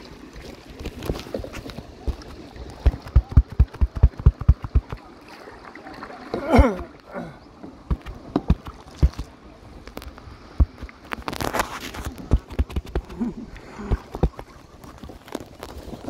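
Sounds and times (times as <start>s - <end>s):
water slapping against kayak: 0.0s - 16.0s.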